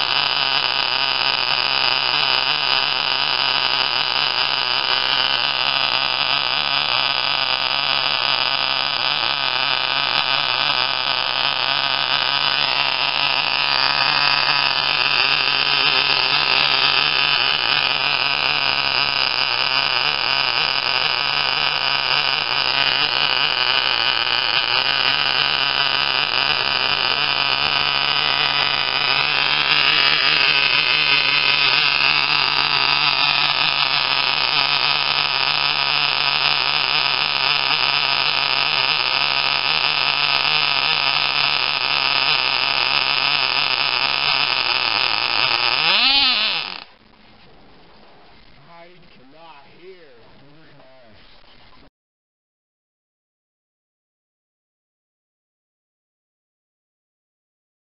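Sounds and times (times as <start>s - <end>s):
model engine high-pitched buzz: 0.0s - 47.0s.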